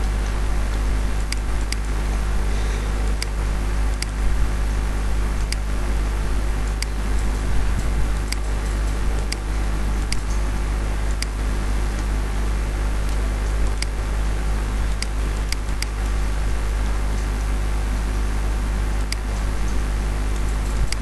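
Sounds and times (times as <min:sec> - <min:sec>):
computer fan humming: 0:00.0 - 0:21.0.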